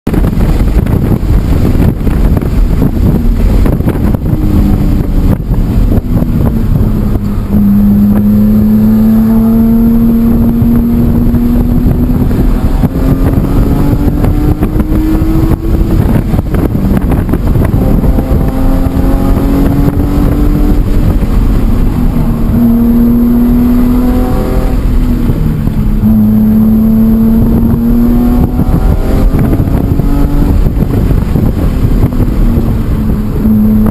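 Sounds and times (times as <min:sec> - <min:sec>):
wind and road noise: 0:00.0 - 0:33.9
car engine revving: 0:00.1 - 0:33.9.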